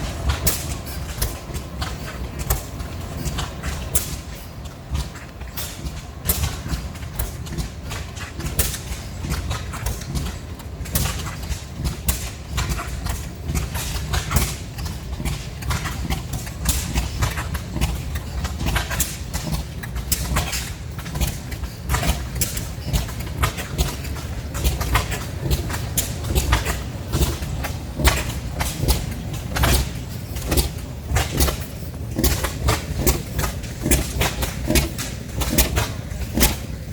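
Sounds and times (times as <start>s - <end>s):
old engines chugging: 0.0s - 36.9s.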